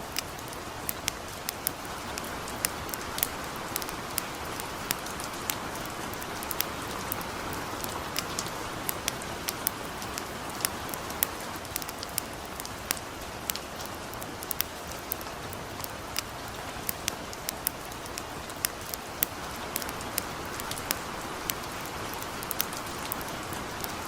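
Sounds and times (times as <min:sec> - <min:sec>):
campfire crackling and popping: 0:00.0 - 0:24.0
light rain hissing: 0:00.0 - 0:24.0.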